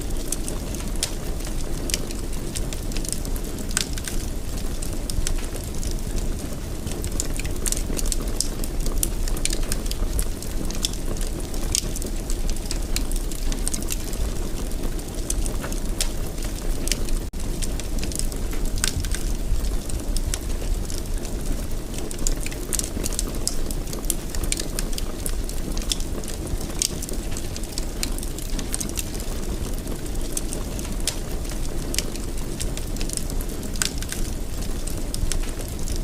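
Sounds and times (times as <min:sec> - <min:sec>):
low rushing fire rumble: 0:00.0 - 0:36.0
wood fire crackling and popping: 0:00.0 - 0:36.0.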